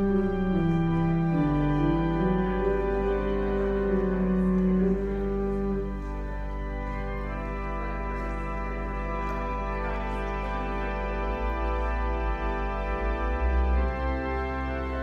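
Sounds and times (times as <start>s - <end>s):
low organ pedal note: 0.0s - 15.0s
slow organ chords: 0.0s - 15.0s.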